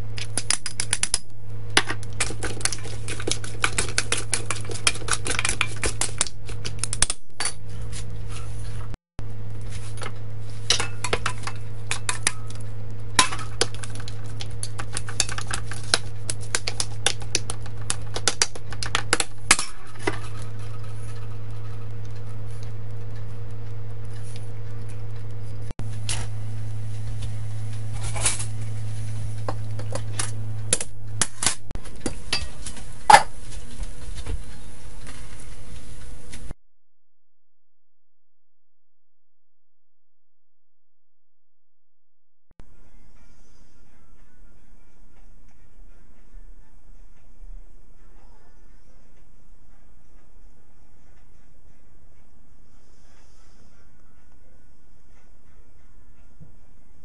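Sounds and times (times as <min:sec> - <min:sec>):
steady low hum: 0:00.0 - 0:36.6, 0:42.6 - 0:57.0.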